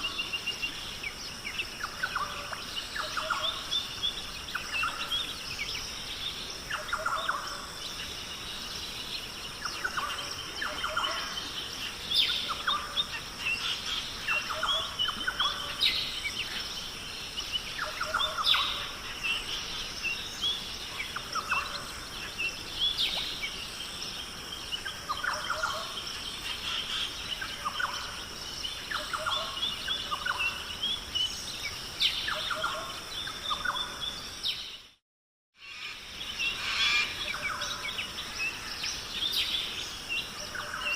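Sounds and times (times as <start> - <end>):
steady high hiss: 0.0 - 34.8, 35.6 - 40.9
birds calling and chirping: 0.0 - 35.0, 35.6 - 40.9.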